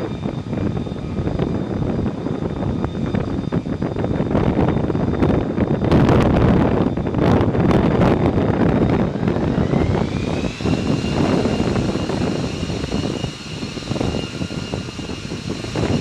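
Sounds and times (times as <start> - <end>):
jet engine rumble and whine: 0.0 - 16.0
wind buffeting microphone: 0.0 - 16.0.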